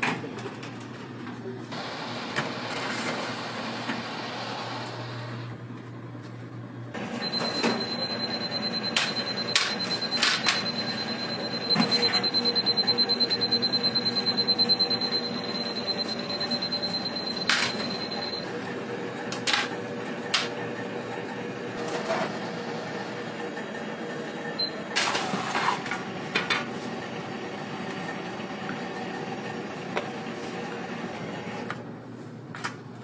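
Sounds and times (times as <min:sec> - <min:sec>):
oven high whine: 0:00.0 - 0:33.0.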